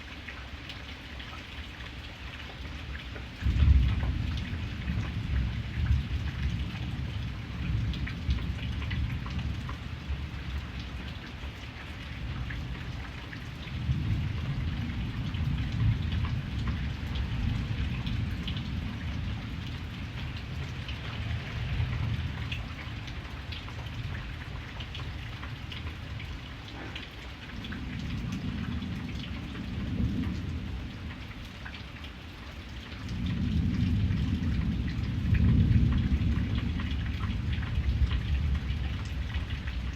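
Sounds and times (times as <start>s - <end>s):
steady rain falling: 0.0s - 39.9s
raindrops ticking: 0.1s - 39.9s
low rolling thunder: 3.4s - 11.1s, 12.2s - 26.4s, 27.5s - 31.2s, 33.0s - 39.9s.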